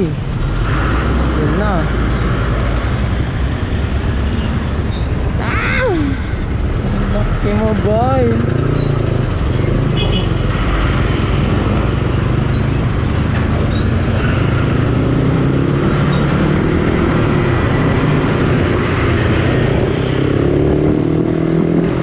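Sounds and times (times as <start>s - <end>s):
traffic: 0.0s - 22.0s.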